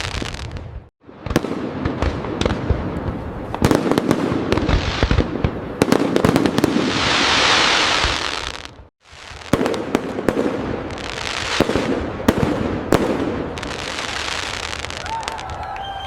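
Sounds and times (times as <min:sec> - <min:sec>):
fireworks bangs and crackling: 0:00.0 - 0:15.8
hissing crackle of fireworks: 0:00.0 - 0:16.0.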